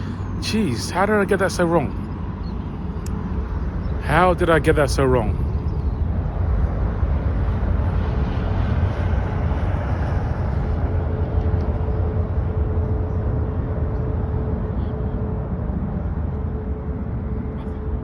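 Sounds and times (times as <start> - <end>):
jet engine rumble with whine: 0.0 - 18.0.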